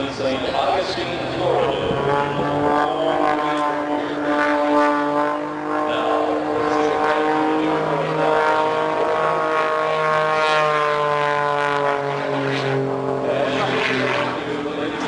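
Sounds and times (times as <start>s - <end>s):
airplane propeller engine droning: 0.0s - 15.0s.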